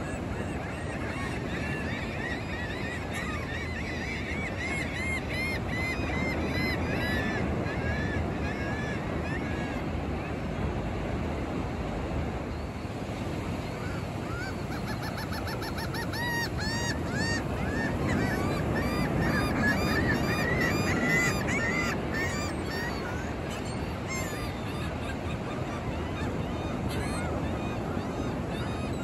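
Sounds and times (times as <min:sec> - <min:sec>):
gulls calling: 0:00.0 - 0:29.0
ocean surf: 0:00.0 - 0:29.0.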